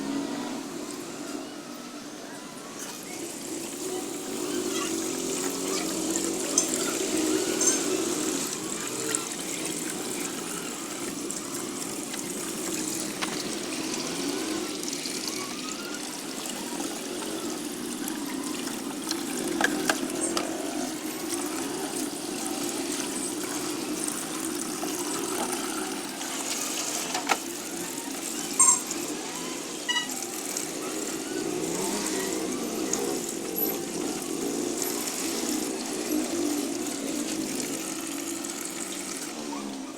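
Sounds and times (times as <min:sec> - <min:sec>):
water running: 0:02.9 - 0:39.9.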